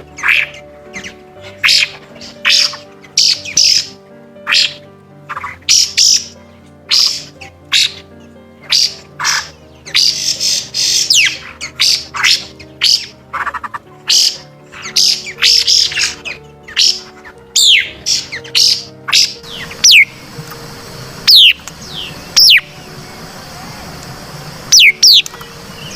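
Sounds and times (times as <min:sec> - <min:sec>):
background music with low notes: 0:00.0 - 0:25.9
bird squawks and chirps: 0:00.2 - 0:03.9, 0:04.5 - 0:08.0, 0:08.6 - 0:20.2, 0:21.2 - 0:22.8, 0:24.7 - 0:25.9.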